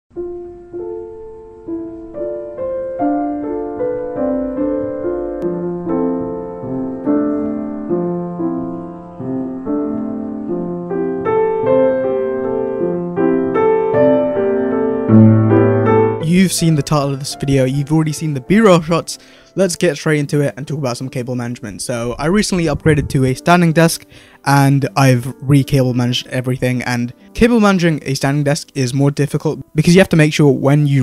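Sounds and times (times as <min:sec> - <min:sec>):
piano notes and chords: 0:00.1 - 0:31.0.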